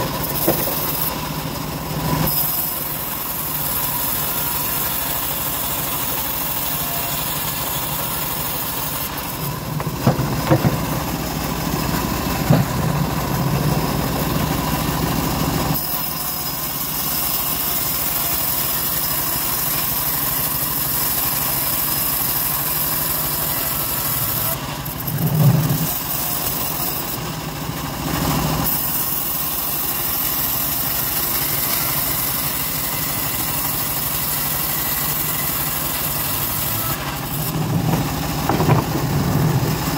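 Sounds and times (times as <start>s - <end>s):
bandsaw ripping timber: 0.0s - 39.9s.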